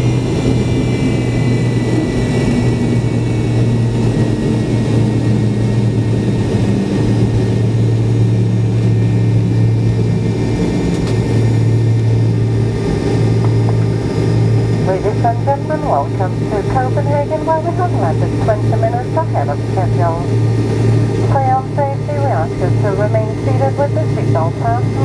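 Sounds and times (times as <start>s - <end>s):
deep hum: 0.0s - 25.0s
jet engine cabin noise: 0.0s - 25.0s.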